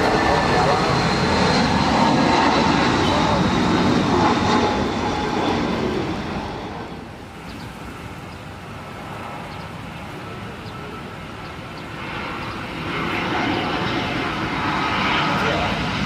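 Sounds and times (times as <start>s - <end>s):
jet plane passing close by: 0.0s - 16.0s.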